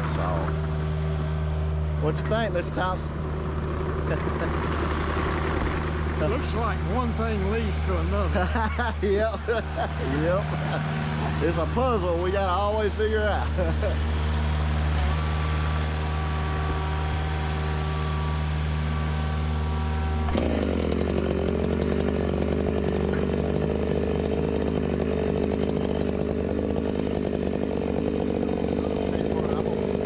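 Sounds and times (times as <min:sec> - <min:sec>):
chainsaw running: 0:00.0 - 0:30.0
diesel excavator engine hum: 0:00.0 - 0:30.0.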